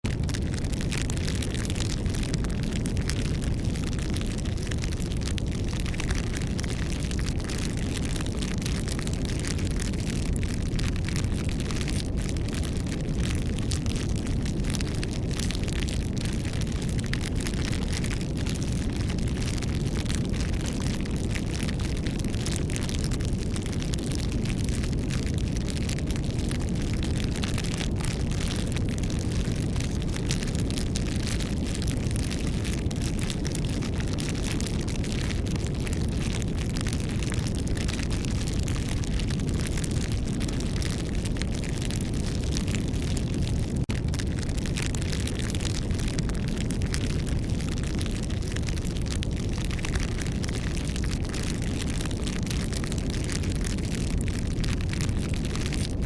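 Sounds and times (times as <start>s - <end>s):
campfire rumbling: 0.0s - 56.0s
wood crackling and popping: 0.0s - 56.0s.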